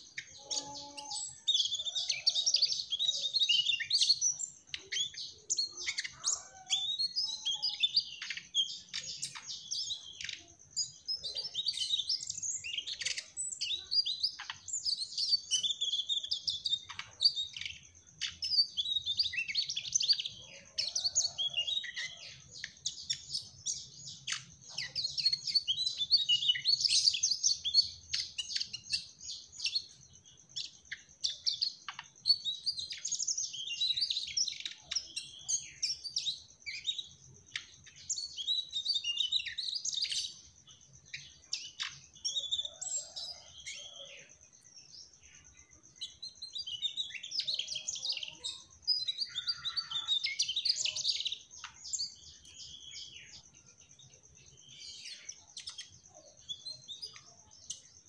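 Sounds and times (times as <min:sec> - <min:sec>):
bird chirping and trilling: 0:00.0 - 0:58.0.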